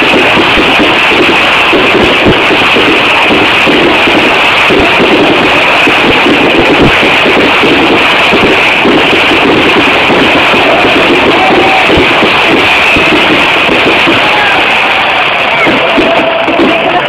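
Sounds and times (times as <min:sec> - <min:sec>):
loud dense music: 0:00.0 - 0:17.0.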